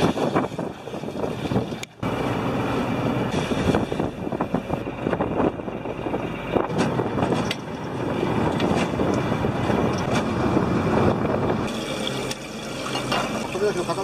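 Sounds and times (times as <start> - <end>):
boat engine running: 0.0 - 14.0
wind and sea noise: 0.0 - 14.0.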